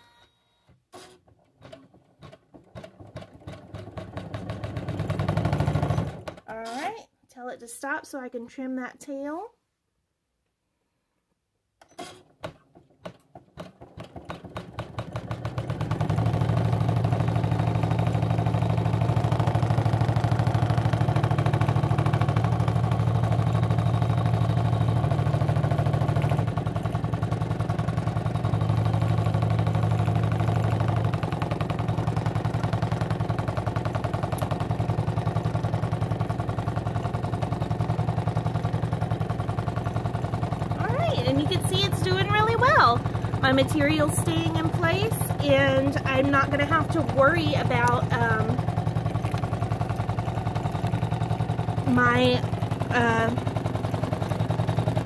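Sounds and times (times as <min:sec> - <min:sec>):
embroidery machine stitching: 0:00.9 - 0:07.0, 0:11.8 - 0:55.0.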